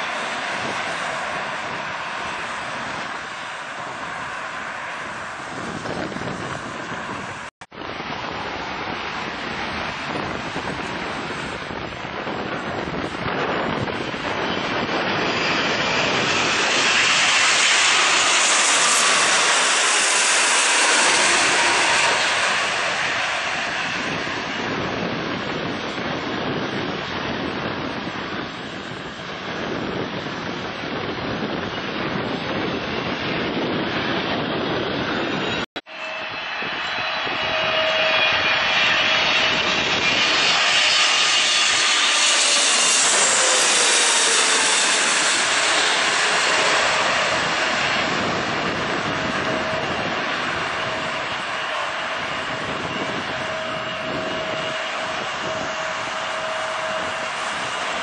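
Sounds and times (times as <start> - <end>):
jet airliner passing low: 0.0 - 58.0
jet engine fan whine: 0.0 - 58.0.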